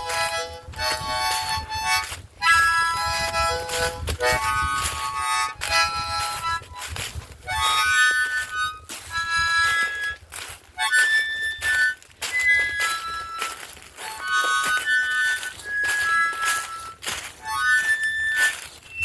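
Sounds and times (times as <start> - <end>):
solo harmonica melody: 0.0 - 19.0.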